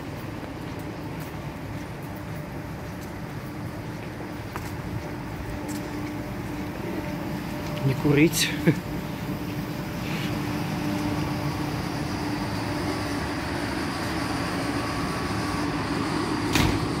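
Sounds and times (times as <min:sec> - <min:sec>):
electric train equipment humming: 0:00.0 - 0:17.0.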